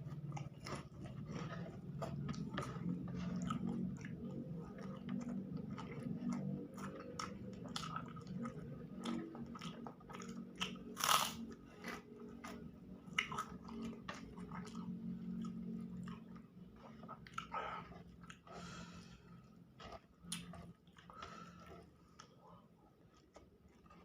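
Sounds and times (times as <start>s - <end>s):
food crunching: 0.0s - 18.7s, 19.3s - 24.0s
person chewing food: 0.0s - 24.0s.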